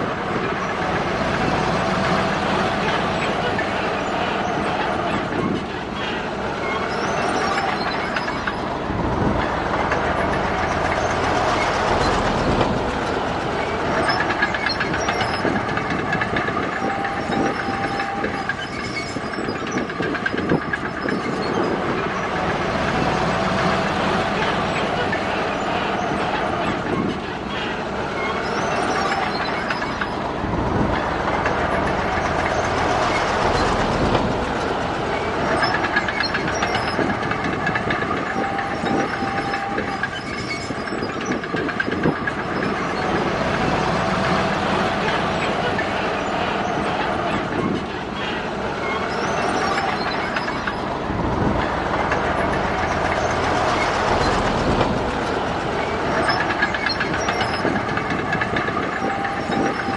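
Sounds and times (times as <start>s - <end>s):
diesel engine running: 0.0s - 59.9s
steel tracks clattering and squealing: 0.0s - 59.9s.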